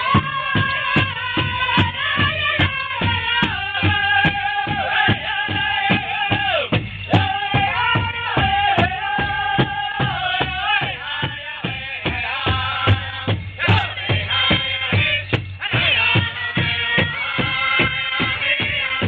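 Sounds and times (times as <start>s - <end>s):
drum steady beat: 0.0s - 19.0s
voices singing long notes: 0.0s - 19.0s.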